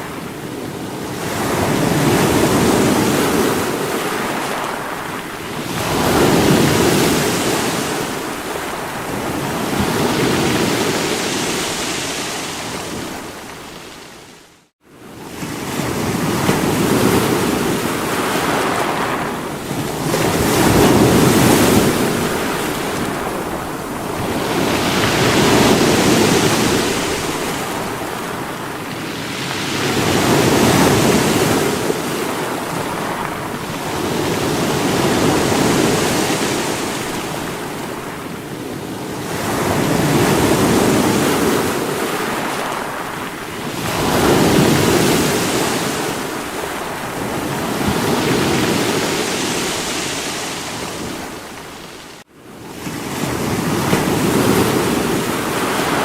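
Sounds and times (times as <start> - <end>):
surf washing: 0.0 - 56.0.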